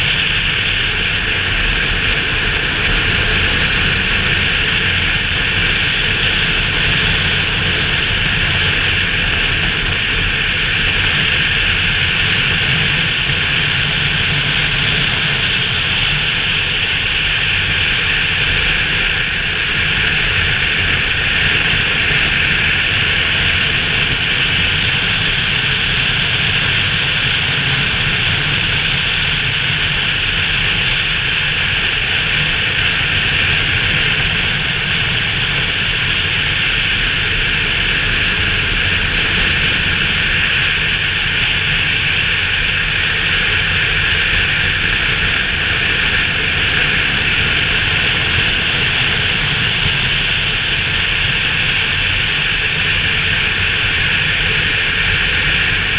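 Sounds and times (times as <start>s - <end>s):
wind rush over microphone: 0.0s - 55.9s.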